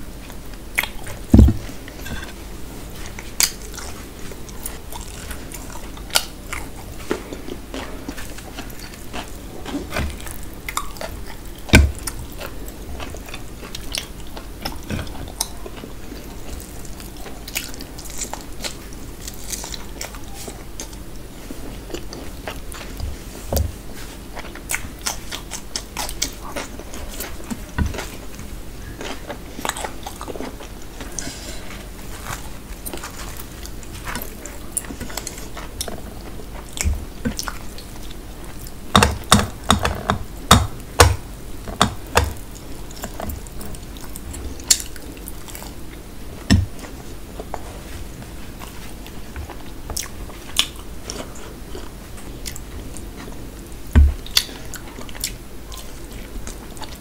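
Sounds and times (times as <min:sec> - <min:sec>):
chewing and biting food: 0:03.0 - 0:57.0.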